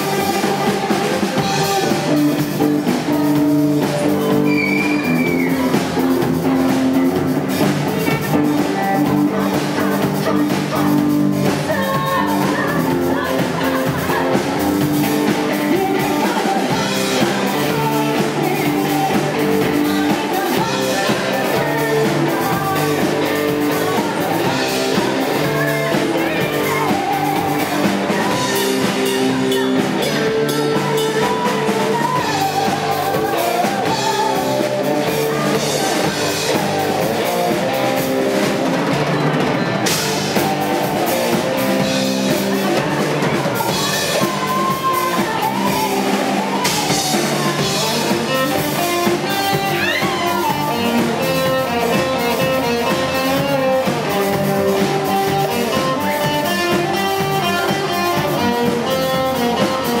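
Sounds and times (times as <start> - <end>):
live rock band playing: 0.0 - 60.0.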